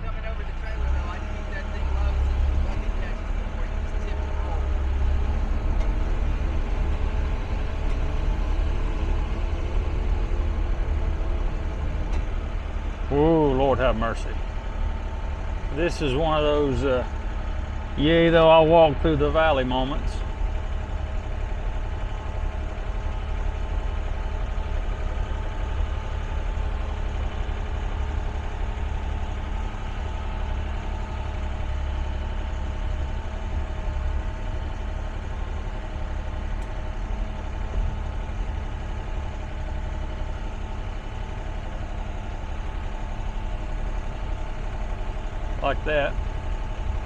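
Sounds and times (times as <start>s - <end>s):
excavator diesel engine droning: 0.0s - 47.0s.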